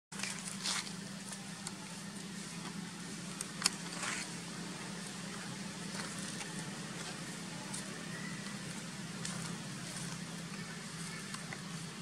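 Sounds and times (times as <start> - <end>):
steady low hum: 0.1 - 12.0
dry leaves rustling: 0.2 - 12.0.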